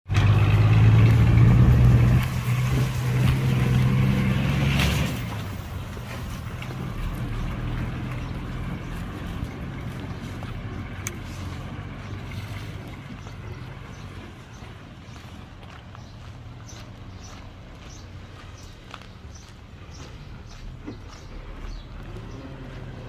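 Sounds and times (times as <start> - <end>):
heavy diesel engine running: 0.1 - 23.0.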